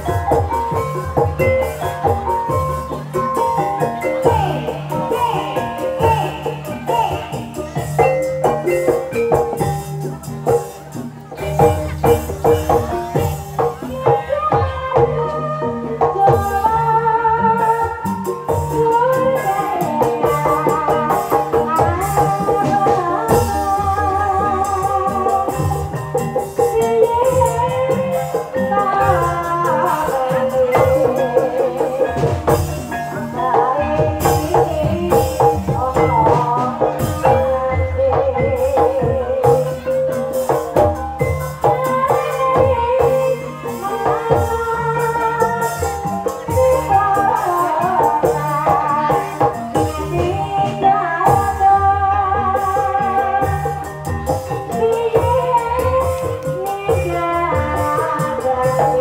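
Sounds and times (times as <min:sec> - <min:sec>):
drums: 0:00.0 - 0:59.0
rattling percussion: 0:00.0 - 0:59.0.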